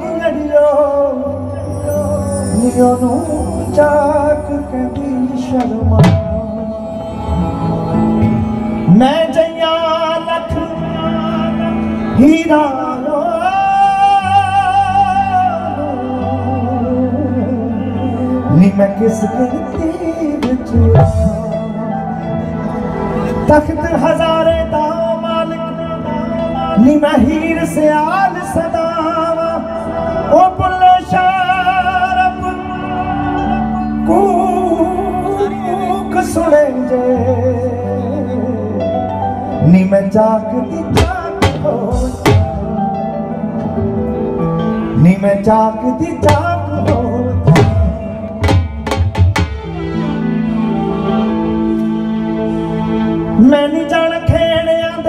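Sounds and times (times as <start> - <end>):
man singing through pa: 0.0 - 7.6, 8.8 - 22.6, 23.4 - 43.8, 44.9 - 49.2, 53.4 - 55.0
band with low drone: 0.0 - 54.5.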